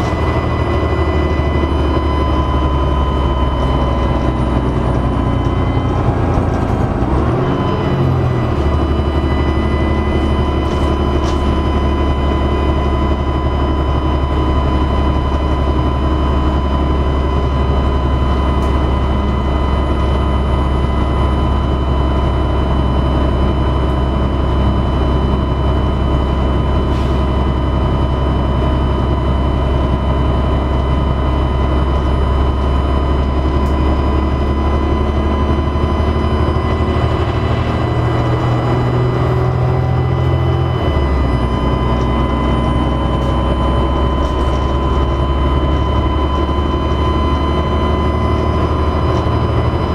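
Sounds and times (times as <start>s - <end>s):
bus engine running: 0.0s - 49.9s
turbocharger whine: 0.0s - 49.9s.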